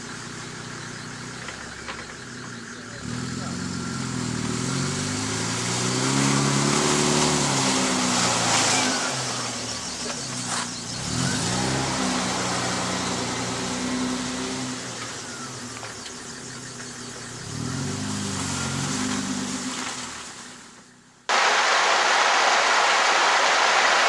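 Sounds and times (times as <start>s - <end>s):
four-wheel drive engine passing: 0.0s - 20.8s.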